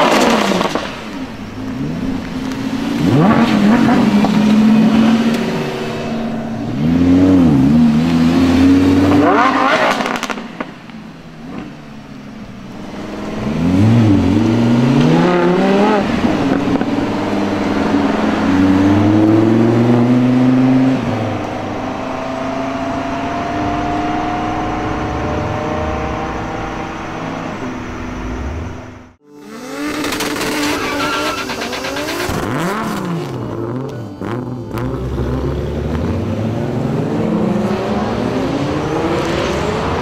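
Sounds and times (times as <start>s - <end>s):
car engines accelerating hard: 0.0s - 40.0s.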